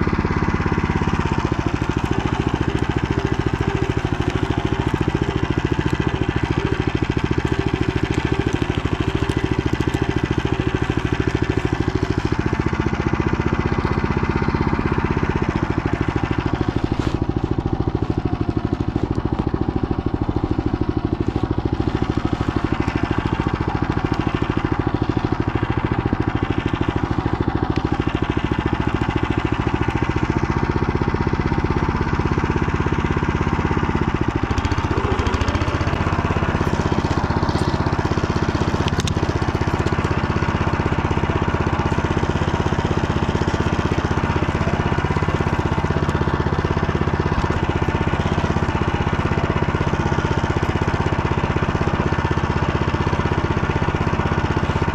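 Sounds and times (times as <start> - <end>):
walk-behind tractor engine running: 0.0 - 54.9.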